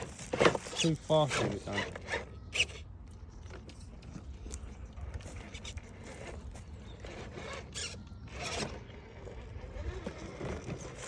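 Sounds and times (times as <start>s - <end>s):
rc car scraping over a log: 0.0s - 2.8s, 4.0s - 11.0s.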